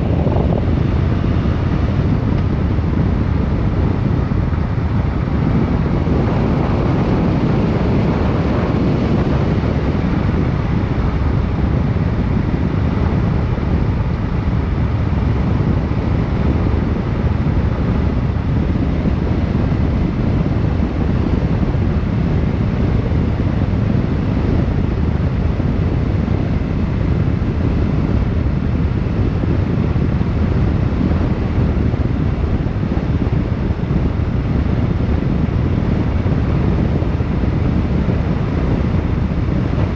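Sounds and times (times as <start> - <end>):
moving vehicle drone: 0.0 - 39.9
wind buffeting microphone: 0.0 - 39.9.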